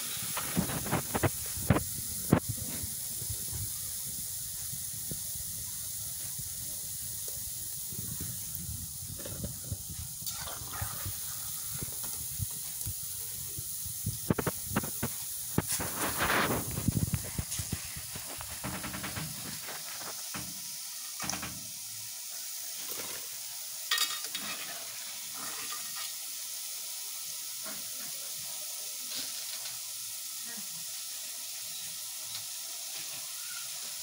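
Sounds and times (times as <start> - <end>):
hot oil sizzling: 0.0 - 34.0.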